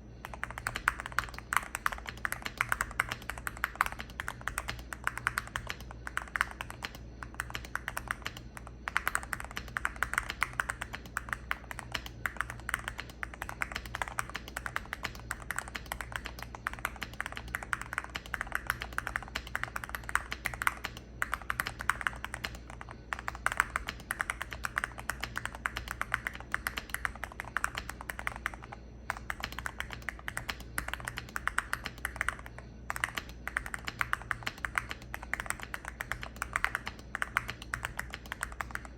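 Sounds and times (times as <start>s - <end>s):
mechanical keyboard typing: 0.2s - 38.9s.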